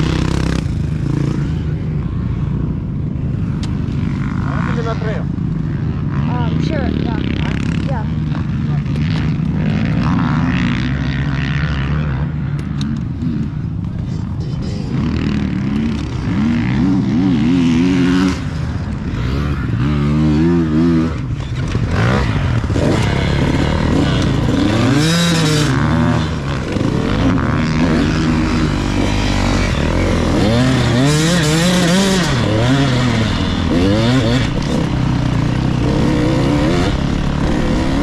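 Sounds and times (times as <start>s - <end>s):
motocross bike engine revving: 0.0s - 38.0s.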